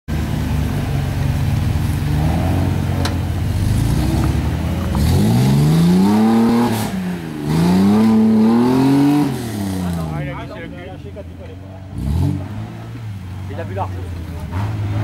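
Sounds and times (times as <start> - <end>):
car engine revving: 0.2 - 15.0.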